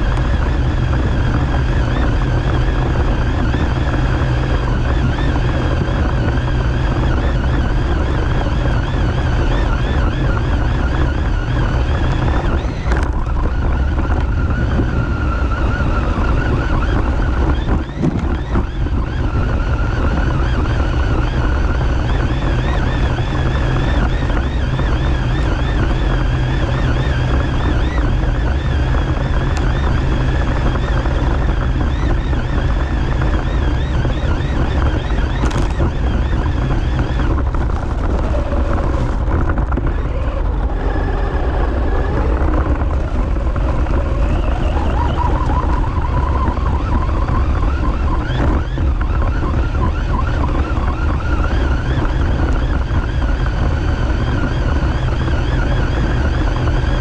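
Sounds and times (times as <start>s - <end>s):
electric motor whine: 0.0s - 57.0s
wind and ground rumble: 0.0s - 57.0s.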